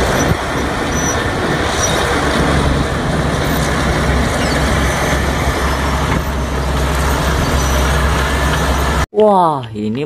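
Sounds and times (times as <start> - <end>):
bulldozer diesel engine running: 0.0 - 9.1.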